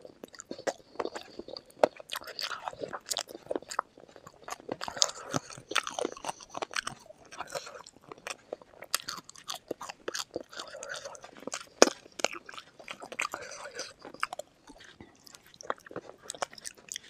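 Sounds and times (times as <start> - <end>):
chewing crunches: 0.0 - 17.0.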